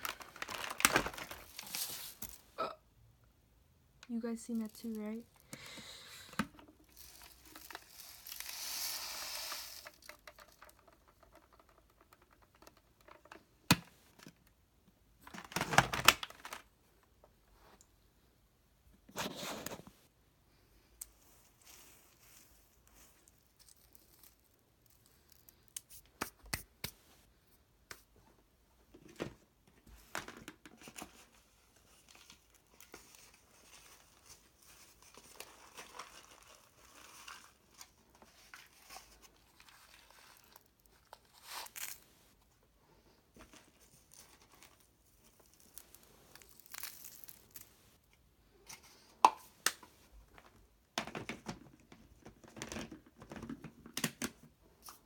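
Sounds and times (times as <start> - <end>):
rustling and crinkling: 0.0 - 2.6, 4.0 - 14.5, 21.0 - 27.3, 28.0 - 55.0.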